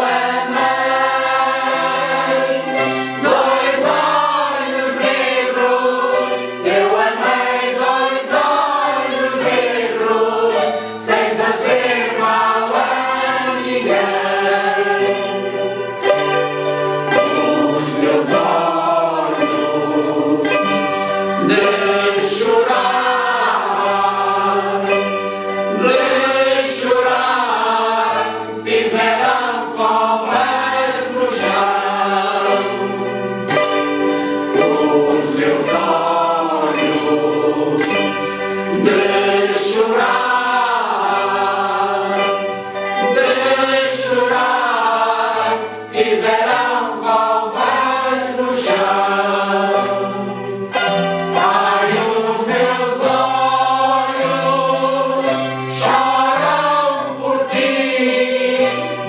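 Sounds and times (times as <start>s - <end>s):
choir singing: 0.0s - 59.0s
guitar: 0.0s - 59.0s
strummed mandolins: 0.0s - 59.0s.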